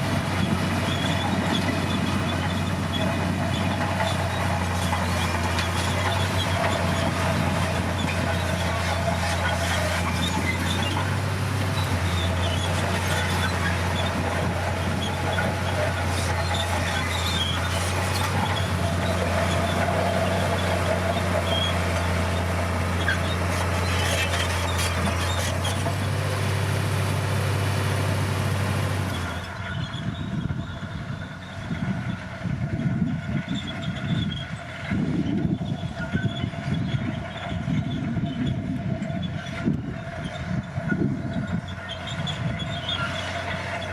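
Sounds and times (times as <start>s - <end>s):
bulldozer diesel engine humming: 0.0s - 43.9s.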